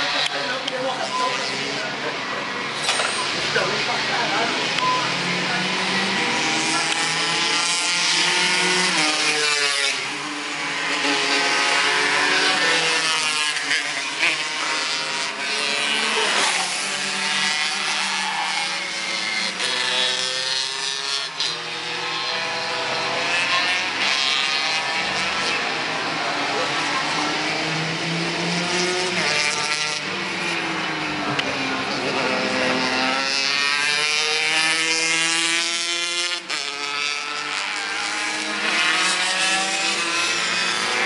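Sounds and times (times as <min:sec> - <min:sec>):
go-kart engines at full throttle: 0:00.0 - 0:41.0.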